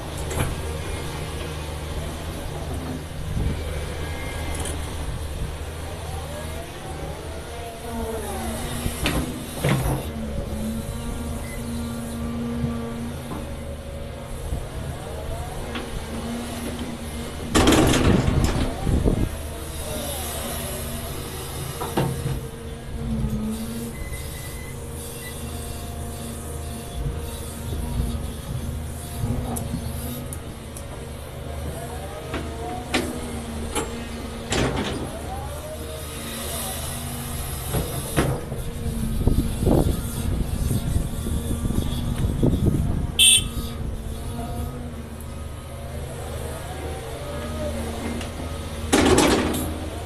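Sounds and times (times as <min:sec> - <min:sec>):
excavator engine and hydraulics droning: 0:00.0 - 0:50.0.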